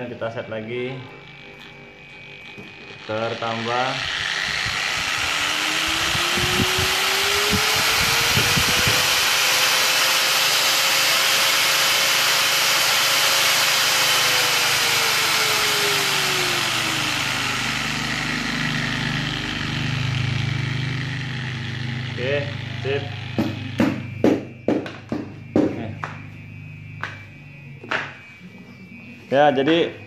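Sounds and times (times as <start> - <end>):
angle grinder motor whine: 0.0 - 30.0.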